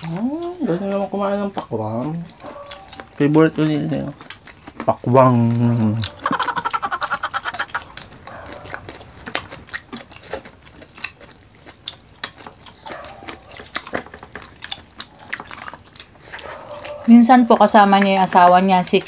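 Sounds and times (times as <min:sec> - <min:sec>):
wet chewing and lip smacks: 0:00.0 - 0:19.0.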